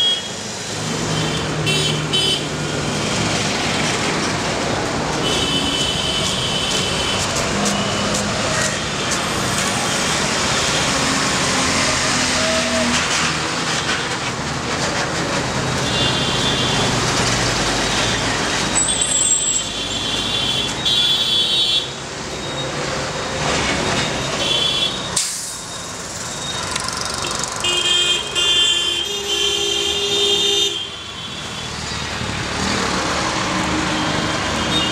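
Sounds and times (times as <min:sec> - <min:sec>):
street traffic passing: 0:00.0 - 0:34.9.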